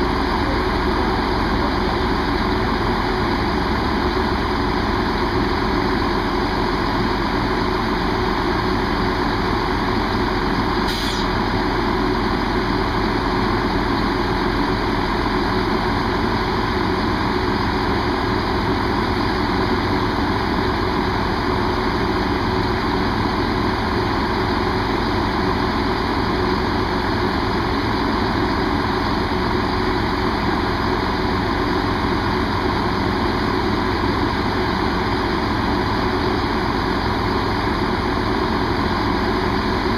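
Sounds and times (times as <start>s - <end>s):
diesel train engine idling: 0.0s - 39.9s.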